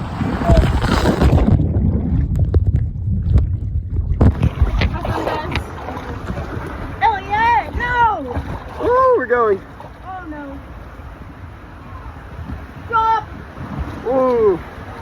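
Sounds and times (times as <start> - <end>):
rushing water: 0.0 - 3.4, 4.2 - 15.0
wind buffeting microphone: 0.0 - 15.0.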